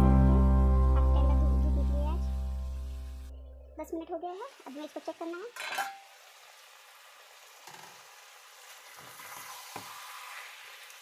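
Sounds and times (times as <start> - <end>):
chicken and onions sizzling in pan: 0.0 - 3.2, 3.9 - 11.0.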